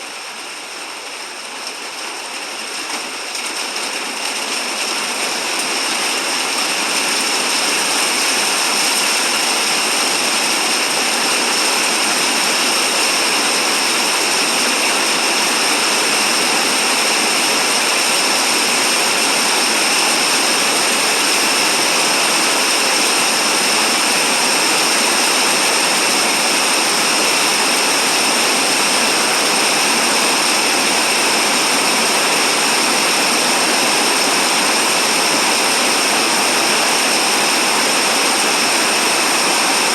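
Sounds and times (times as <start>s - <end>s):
rain pouring: 0.0s - 39.9s.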